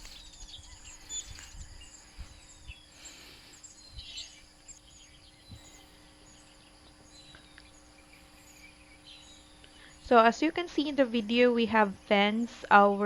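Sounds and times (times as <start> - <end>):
birds chirping: 0.0 - 13.0
insect drone: 0.0 - 13.0.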